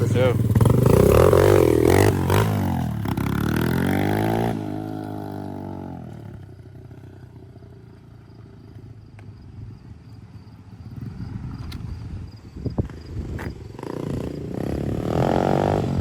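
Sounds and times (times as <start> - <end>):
dirt bike engine accelerating: 0.0 - 16.0.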